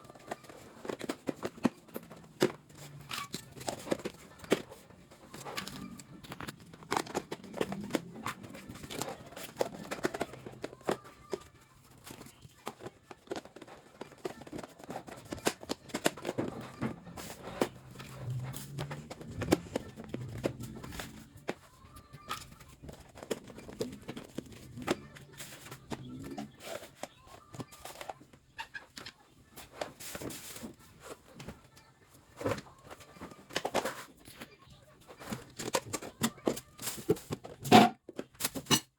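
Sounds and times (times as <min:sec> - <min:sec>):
objects clicking and rustling: 0:00.0 - 0:38.9.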